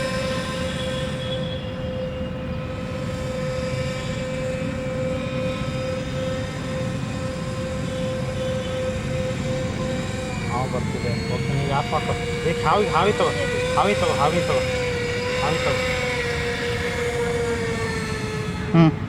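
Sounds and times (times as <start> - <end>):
electric motor and propeller whine: 0.0 - 19.0.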